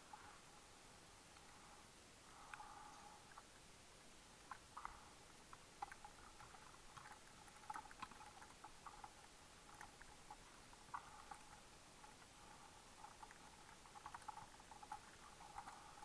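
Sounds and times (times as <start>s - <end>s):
underwater clicking and crackling: 2.3s - 16.0s.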